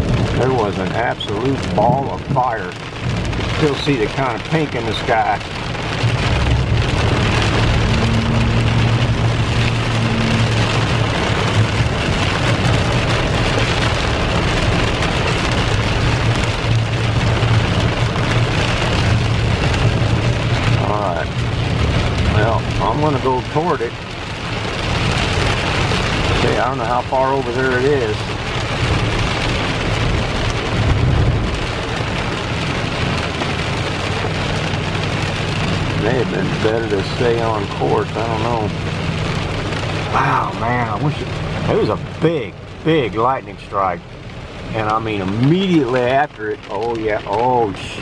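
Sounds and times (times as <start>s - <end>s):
heavy rain falling: 0.0s - 48.0s
low rumble: 0.0s - 48.0s.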